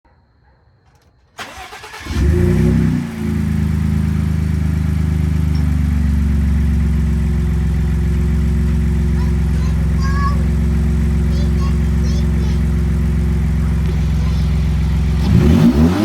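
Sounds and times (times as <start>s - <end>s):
car engine starting and idling: 0.9s - 16.0s.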